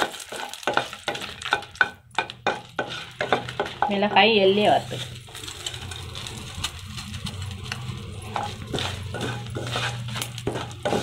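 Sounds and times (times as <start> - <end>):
chillies frying in oil: 0.0 - 11.0
wooden spatula scraping a pan: 0.0 - 11.0.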